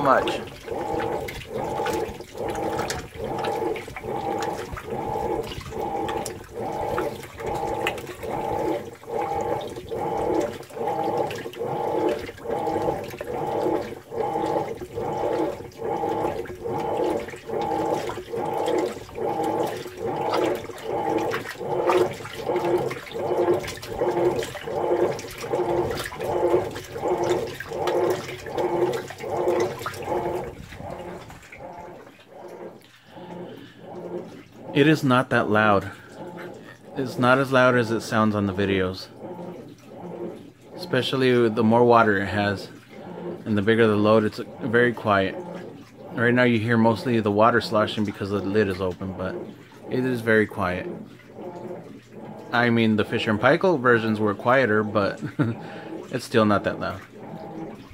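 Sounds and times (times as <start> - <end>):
washing machine agitating: 0.0 - 57.9
water sloshing: 0.0 - 57.9.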